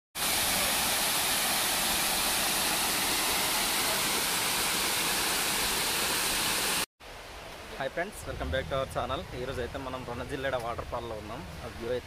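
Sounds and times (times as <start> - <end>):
waterfall pouring over rocks: 0.2 - 12.0.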